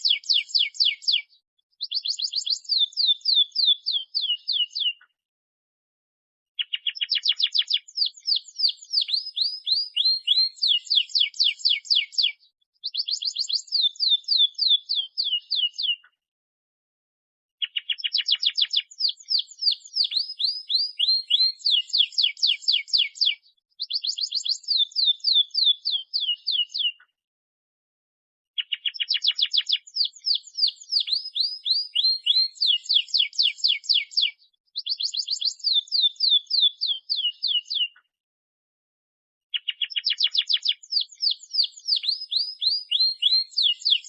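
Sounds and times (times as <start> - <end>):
canary singing trills: 0.0 - 5.1, 6.6 - 16.1, 17.6 - 27.1, 28.6 - 38.0, 39.5 - 44.0.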